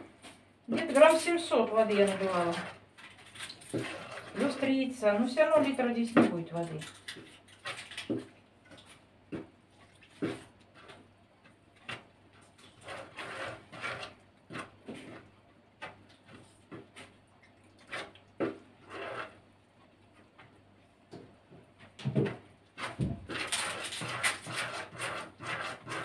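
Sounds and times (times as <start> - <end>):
dough mixing scrapes and knocks: 0.0 - 26.0.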